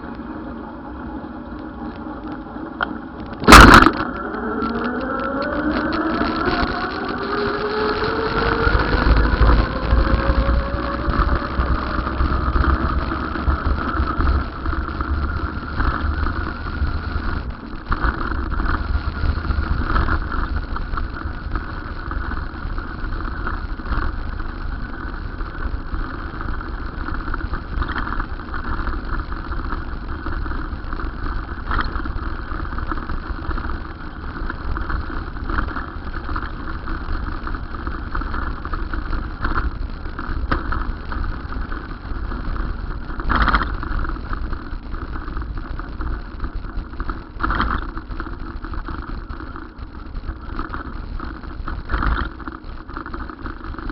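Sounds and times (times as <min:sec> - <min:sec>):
rising whine: 0:00.0 - 0:53.9
vehicle engine rumble: 0:00.0 - 0:53.9.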